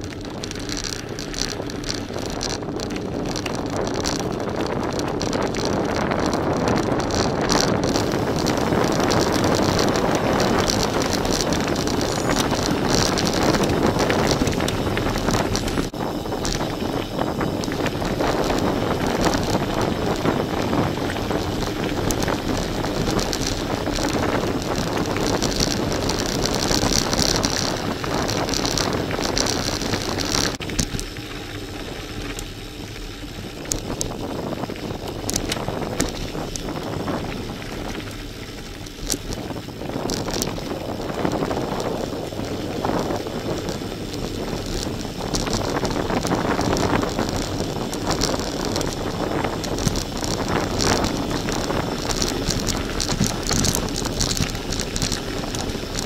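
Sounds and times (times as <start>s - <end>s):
bike rattling: 0.0s - 56.0s
bike tyres rolling on gravel: 0.0s - 56.0s
wind on microphone: 0.0s - 56.0s.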